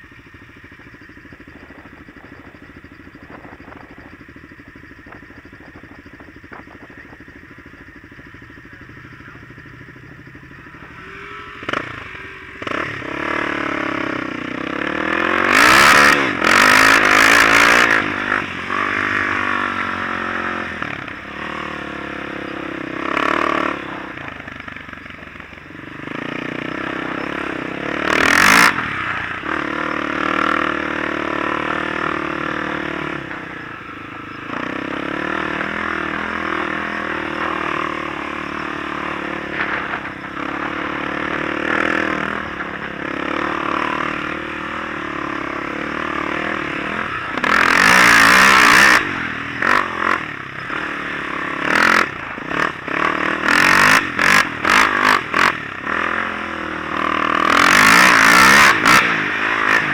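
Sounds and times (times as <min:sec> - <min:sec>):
off-road vehicle engine revving: 0:08.5 - 0:59.9.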